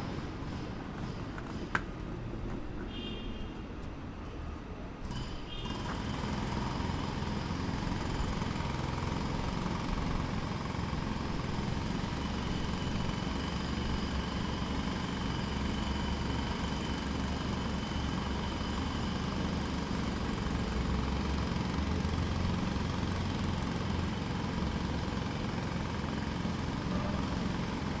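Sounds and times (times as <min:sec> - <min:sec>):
distant jackhammer rattling: 0:05.1 - 0:28.0.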